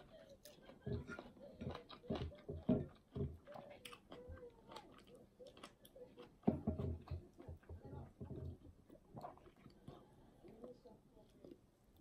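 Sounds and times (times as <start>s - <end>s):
chewing with mouth clicks: 0.0s - 12.0s.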